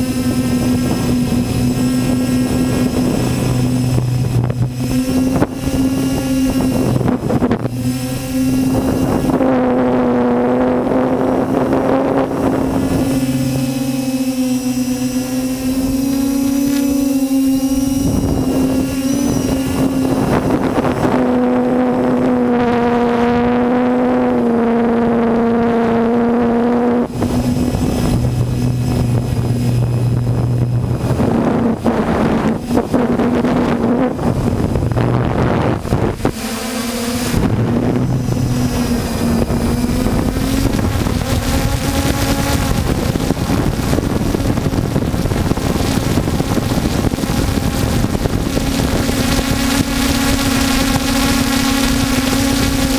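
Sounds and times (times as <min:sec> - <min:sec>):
drone propellers buzzing: 0:00.0 - 0:52.9
wind on microphone: 0:00.0 - 0:52.9.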